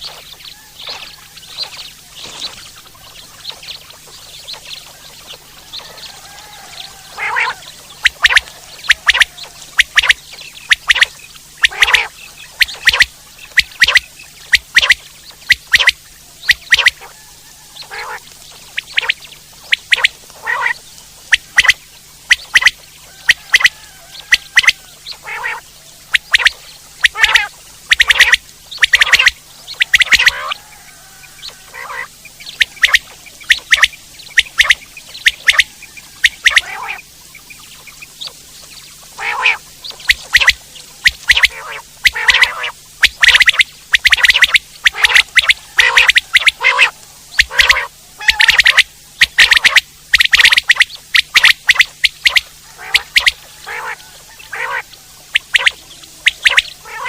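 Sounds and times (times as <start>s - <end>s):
faint steady hum: 0.0s - 57.0s
quail calling: 0.0s - 57.0s.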